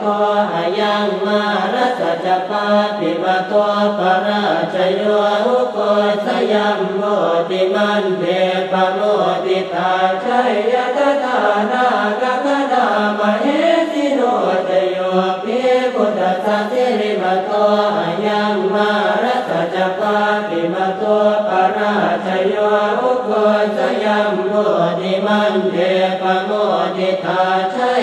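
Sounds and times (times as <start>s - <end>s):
monk chanting: 0.0s - 28.0s.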